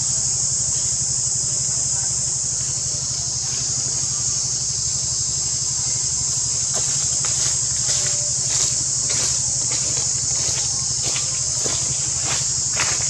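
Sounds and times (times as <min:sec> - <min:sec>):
insects shrilling: 0:00.0 - 0:13.0
low pulsing hum: 0:00.0 - 0:13.0.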